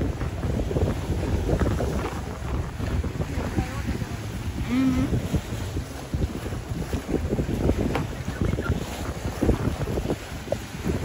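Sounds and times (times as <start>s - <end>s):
waves washing on rocks: 0.0s - 11.0s
wind buffeting microphone: 0.0s - 11.0s.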